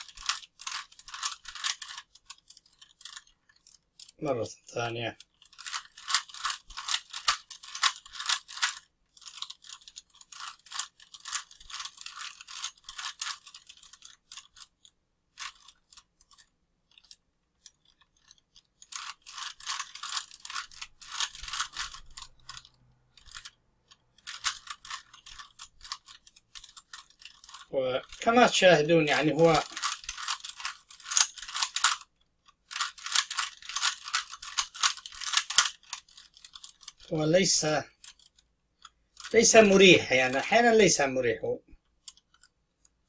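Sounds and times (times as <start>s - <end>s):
puzzle cube clicking: 0.0s - 4.2s, 5.2s - 40.0s.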